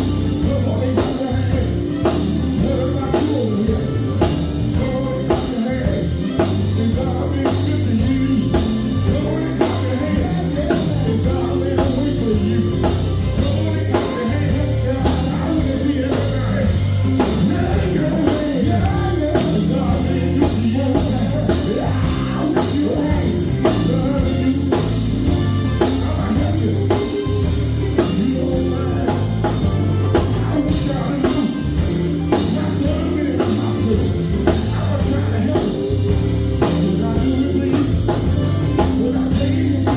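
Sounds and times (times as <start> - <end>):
band playing with singing: 0.0 - 39.9.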